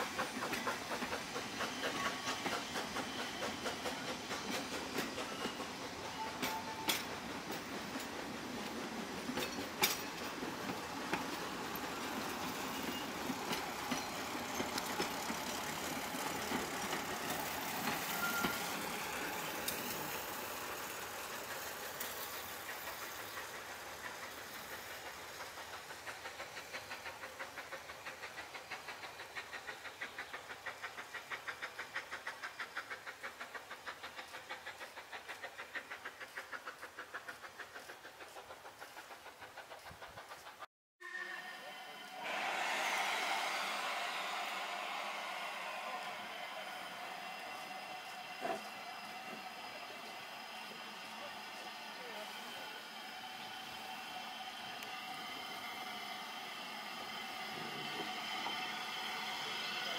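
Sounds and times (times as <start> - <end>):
rapid regular steam beat: 0.0 - 40.7, 41.7 - 59.9
train wheels clicking on rails: 0.0 - 40.7, 42.1 - 59.9.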